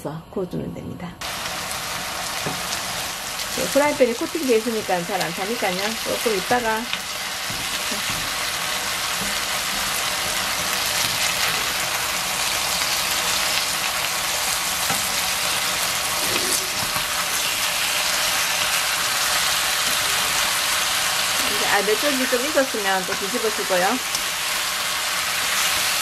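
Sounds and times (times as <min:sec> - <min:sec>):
chicken sizzling in frying oil: 0:01.2 - 0:26.0.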